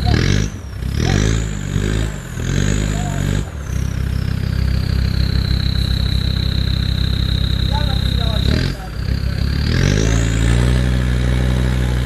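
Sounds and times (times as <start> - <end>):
diesel engine revving: 0.0 - 12.0
high whine: 1.2 - 12.0.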